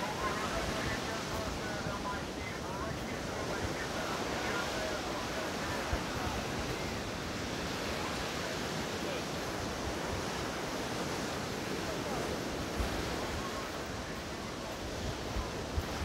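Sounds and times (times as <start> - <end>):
surf breaking on shore: 0.0 - 16.0
wind on microphone: 0.0 - 16.0.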